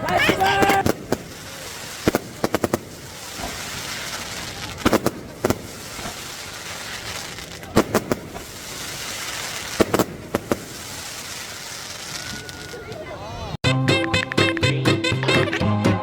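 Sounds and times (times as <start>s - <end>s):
fireworks bangs and cracks: 0.0s - 13.2s
outdoor crowd noise: 0.0s - 16.0s.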